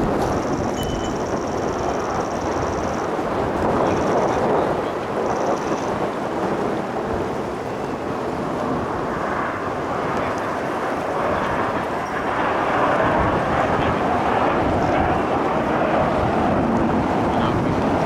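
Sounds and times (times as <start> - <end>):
jets flying overhead: 0.0 - 18.0.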